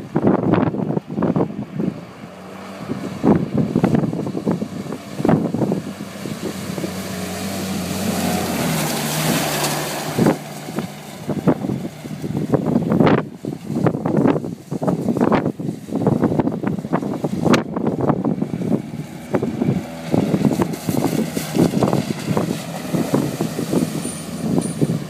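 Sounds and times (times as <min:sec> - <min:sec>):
engine pulling hard: 0:00.0 - 0:25.0
water rushing from tyres: 0:00.0 - 0:25.0
wind buffeting microphone: 0:00.0 - 0:25.0
wheels spinning on gravel: 0:02.9 - 0:25.0.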